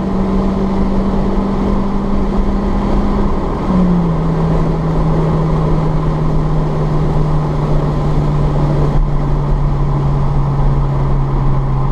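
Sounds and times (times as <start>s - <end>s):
car engine droning at high revs: 0.0s - 11.9s.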